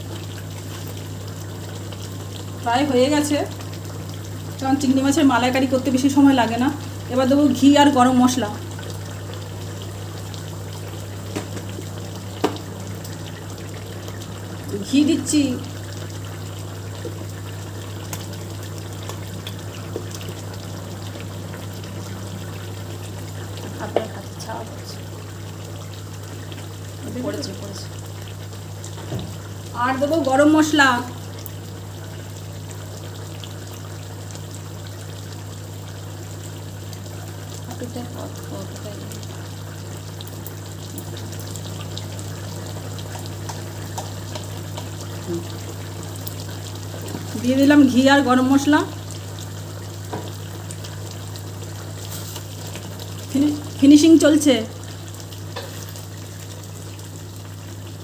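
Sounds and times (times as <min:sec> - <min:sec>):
curry bubbling in a pan: 0:00.0 - 0:58.0.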